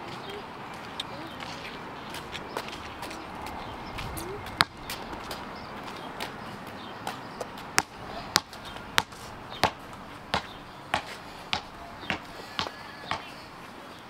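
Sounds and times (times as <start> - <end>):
footsteps on concrete: 0.0 - 13.8.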